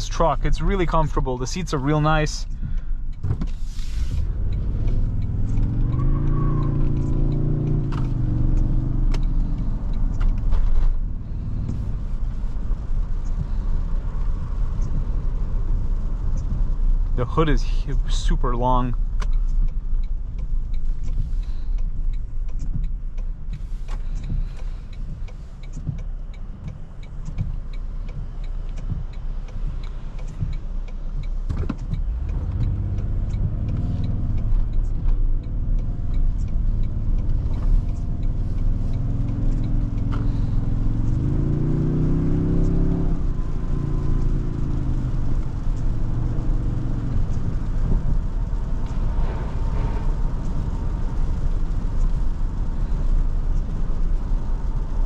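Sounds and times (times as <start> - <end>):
engine accelerating: 0.0 - 55.0
rain on a vehicle: 0.0 - 55.0
road noise: 0.0 - 55.0
ticks: 4.3 - 55.0.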